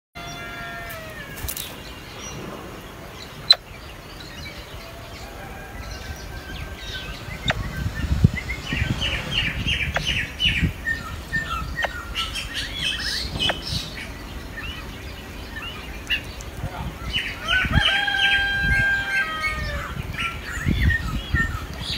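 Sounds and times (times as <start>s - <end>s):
nestlings begging chirps: 0.2s - 21.9s.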